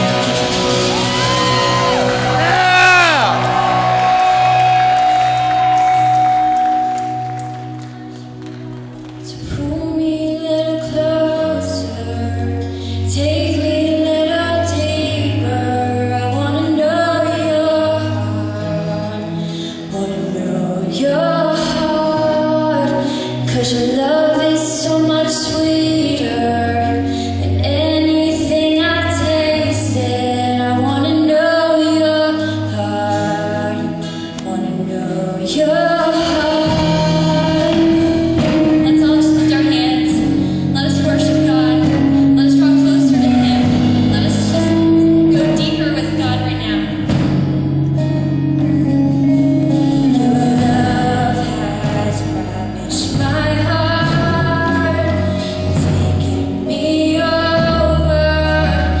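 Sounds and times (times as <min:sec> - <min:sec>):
woman singing: 0:09.2 - 0:47.0, 0:48.0 - 0:59.0.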